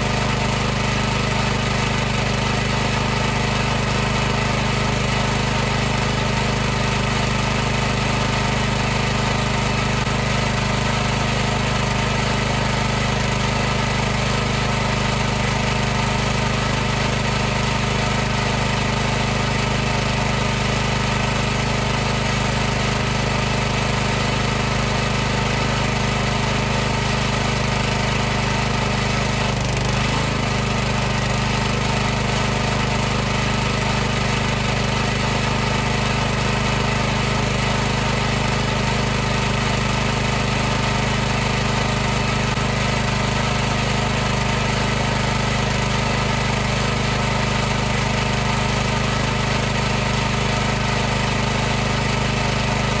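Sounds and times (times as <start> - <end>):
pressure washer running: 0.0 - 53.0.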